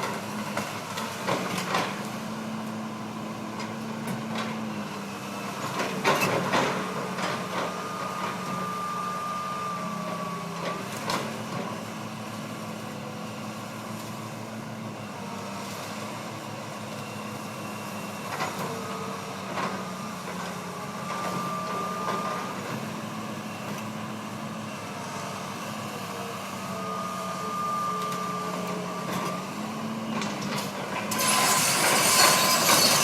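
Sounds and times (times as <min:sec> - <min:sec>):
engine running steadily: 0:00.0 - 0:31.1.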